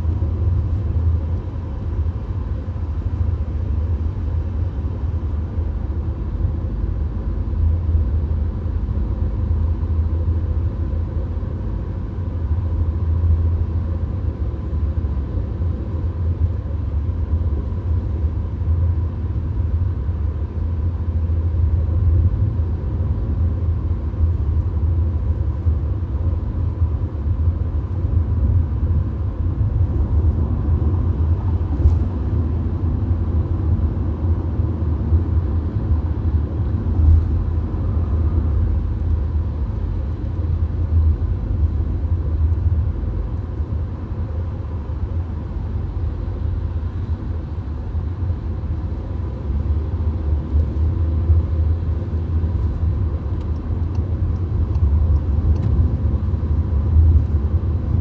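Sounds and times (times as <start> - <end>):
road and engine rumble inside car: 0.0 - 58.0.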